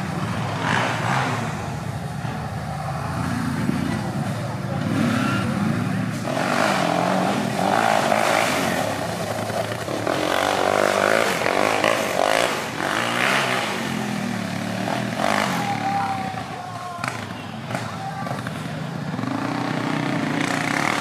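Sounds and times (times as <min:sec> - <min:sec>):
quad bike engines revving: 0:00.0 - 0:21.0.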